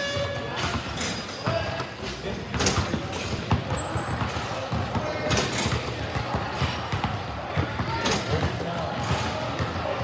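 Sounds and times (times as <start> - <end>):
echoing gym background: 0.0 - 10.0.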